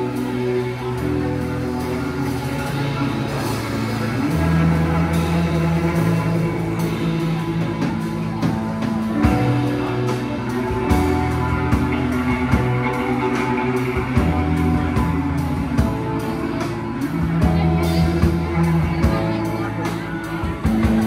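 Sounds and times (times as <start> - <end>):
bass guitar notes: 0.0 - 21.0
electric guitar chords: 0.0 - 21.0.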